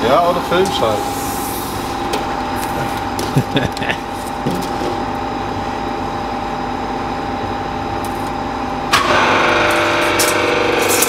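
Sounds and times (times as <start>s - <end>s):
loud machine running: 0.0s - 11.0s
workshop machine humming: 0.0s - 11.0s.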